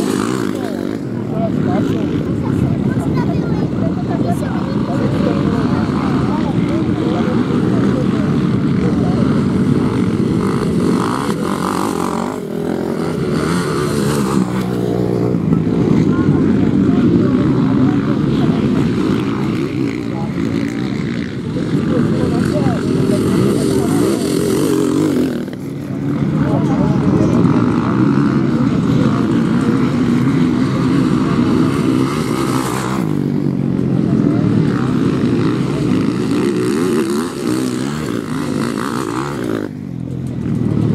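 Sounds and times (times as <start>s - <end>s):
motocross motorcycle engines revving: 0.0s - 40.9s.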